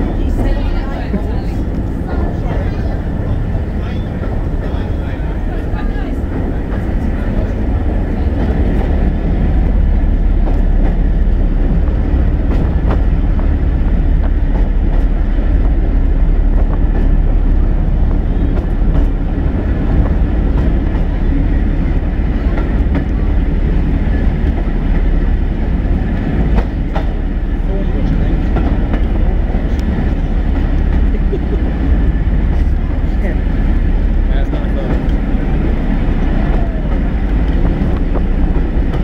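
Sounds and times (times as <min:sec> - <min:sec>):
train interior low rumble: 0:00.0 - 0:39.0.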